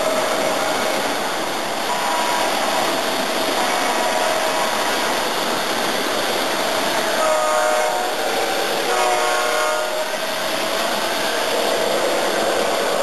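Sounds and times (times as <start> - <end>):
model train rolling on track: 0.0 - 13.0.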